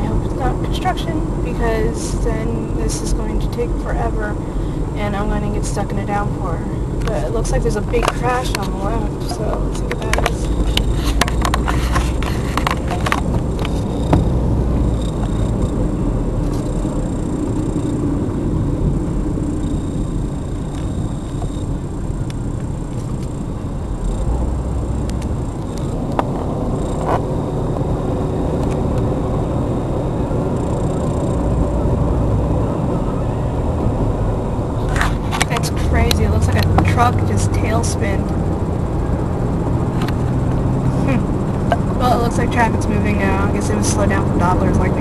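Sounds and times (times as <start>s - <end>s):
car cabin road rumble: 0.0s - 45.0s.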